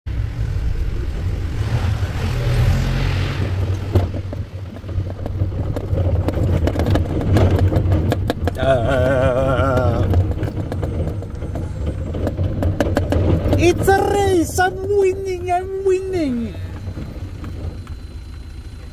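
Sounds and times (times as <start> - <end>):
forklift engine rumble: 0.1 - 18.9
rattles and clatter from cab: 3.6 - 18.9.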